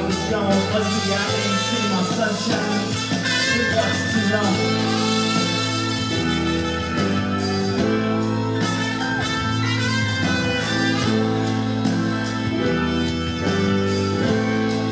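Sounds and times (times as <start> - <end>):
instrumental concert music: 0.0 - 14.9.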